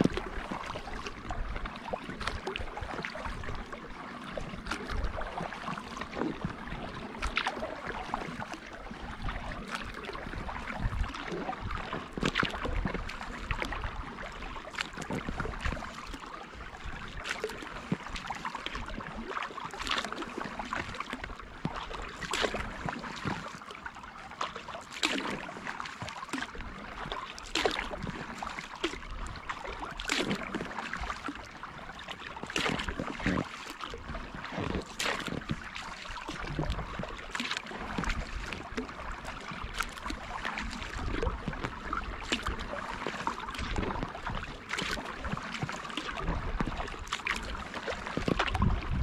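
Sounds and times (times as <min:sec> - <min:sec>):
paddle splashing in water: 0:00.0 - 0:49.0
water dripping off paddle: 0:00.0 - 0:49.0.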